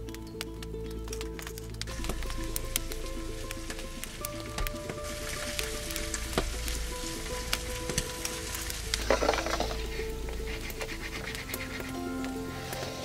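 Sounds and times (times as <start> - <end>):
crackles: 0.0 - 13.0
soft background music: 0.0 - 13.0
sauce sizzling and bubbling in pan: 1.8 - 13.0.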